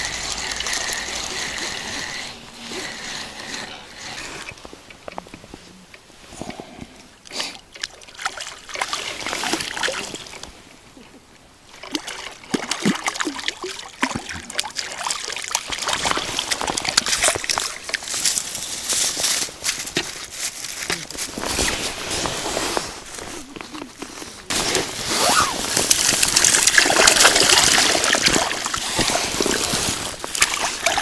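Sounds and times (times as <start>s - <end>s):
water splashing and sloshing: 0.0s - 5.5s, 7.6s - 10.8s, 11.6s - 31.0s.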